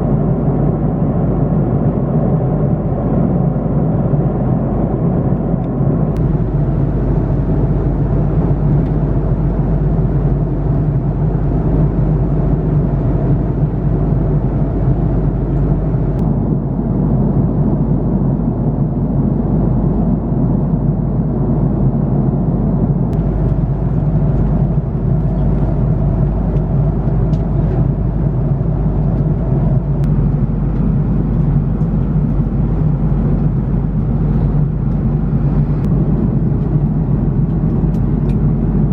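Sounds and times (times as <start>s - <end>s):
airliner cabin jet rumble: 0.0s - 38.9s
constant cabin hum: 0.0s - 38.9s.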